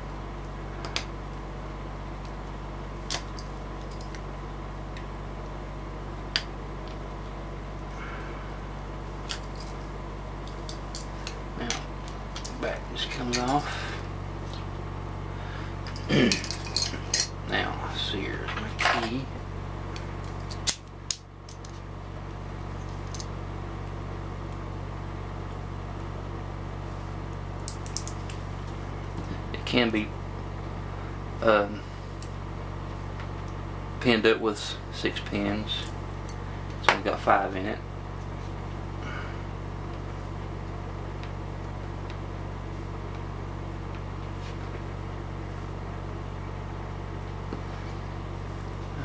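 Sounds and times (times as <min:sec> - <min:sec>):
steady electrical hum: 0:00.0 - 0:49.0.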